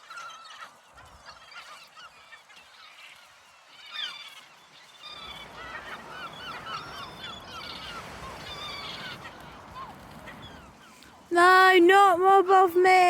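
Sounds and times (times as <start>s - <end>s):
seagulls calling: 0.0s - 13.0s.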